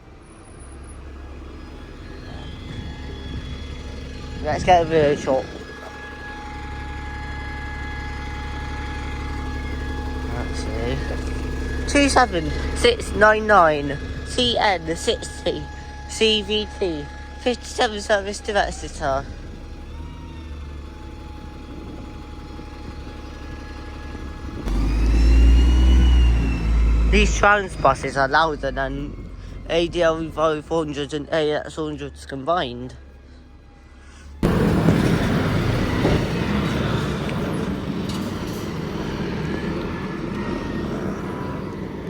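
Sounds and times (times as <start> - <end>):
bus diesel engine accelerating: 0.0 - 42.0.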